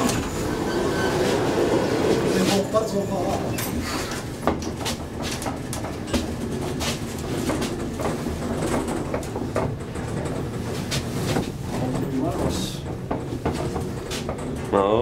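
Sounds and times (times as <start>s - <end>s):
elevator car rumbling: 0.0s - 15.0s
rattling knocks and clanks: 1.4s - 15.0s.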